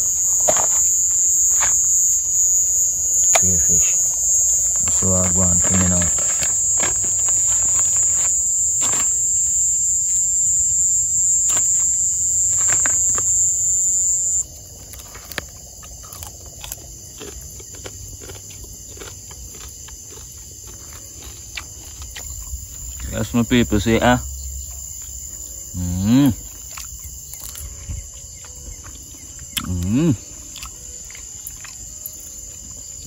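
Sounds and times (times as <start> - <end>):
insect trilling: 0.0 - 33.0.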